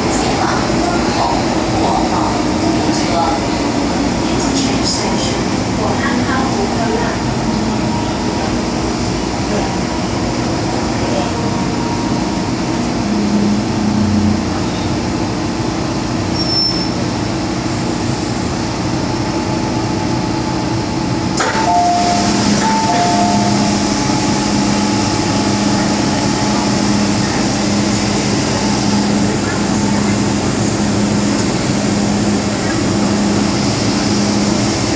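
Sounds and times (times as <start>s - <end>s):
train rumble with motor hum: 0.0s - 34.9s.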